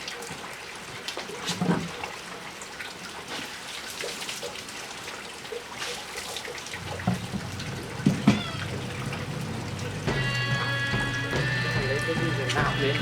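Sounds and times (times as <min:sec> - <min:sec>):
small splashes and ticks: 0:00.0 - 0:11.3
water running and splashing: 0:00.0 - 0:13.0.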